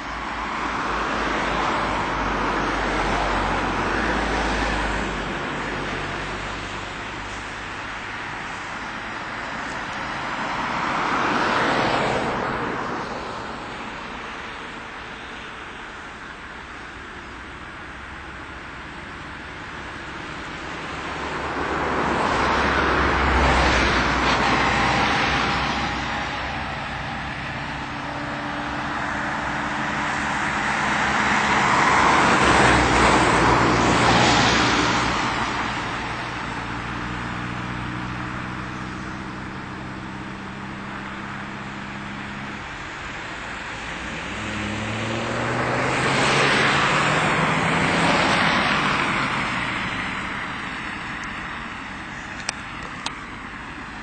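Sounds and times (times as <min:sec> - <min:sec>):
cars passing: 0:00.0 - 0:54.0
hum of tyres and engines: 0:00.0 - 0:54.0.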